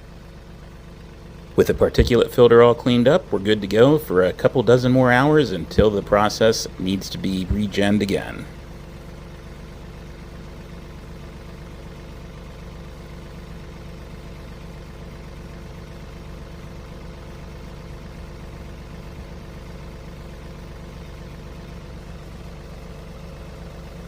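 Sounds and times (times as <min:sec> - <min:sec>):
diesel tractor engine idling: 0:00.0 - 0:24.0.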